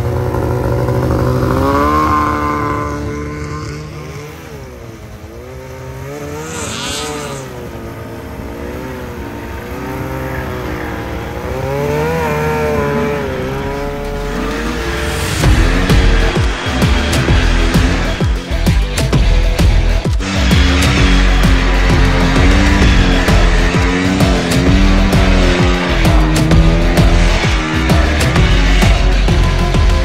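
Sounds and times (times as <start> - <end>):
snowmobile engines revving: 0.0 - 30.0.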